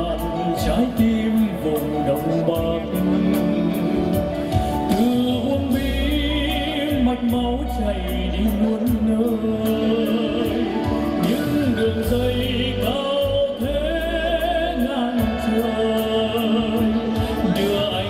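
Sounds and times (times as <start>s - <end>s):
backing music with steady beat: 0.0s - 18.0s
man singing: 0.0s - 18.0s.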